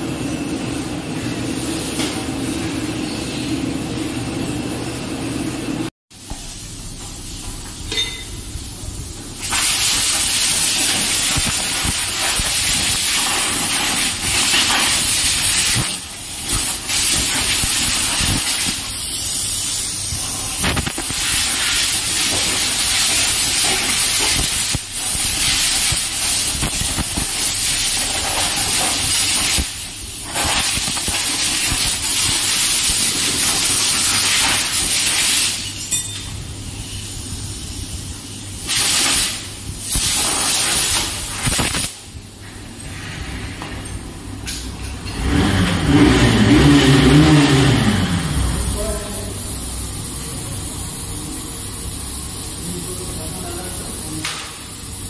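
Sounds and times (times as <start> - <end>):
pressure washer spray hissing: 6.2 - 35.9, 36.7 - 42.4, 45.9 - 55.0.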